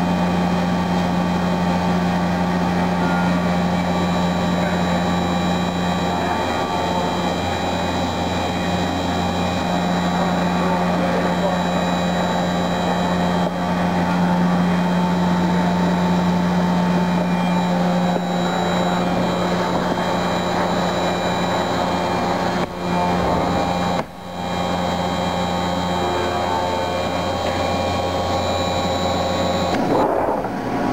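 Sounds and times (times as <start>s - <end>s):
milling machine cutting metal: 2.8s - 30.0s.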